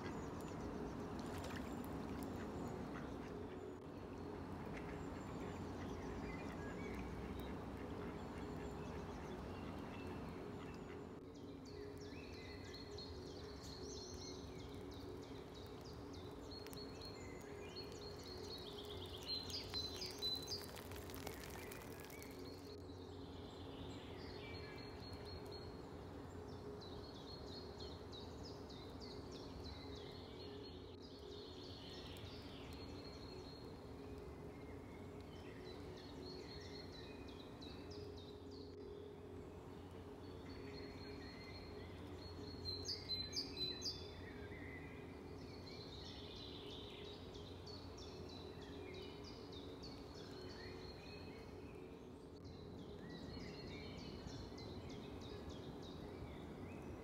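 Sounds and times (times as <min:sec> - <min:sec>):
low background hum: 0:00.0 - 0:57.0
songbirds singing and chirping: 0:00.0 - 0:57.0.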